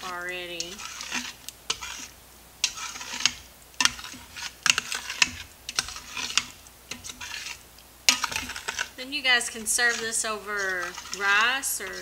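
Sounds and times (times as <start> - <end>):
metal spoon scraping a pot: 0.0 - 12.0.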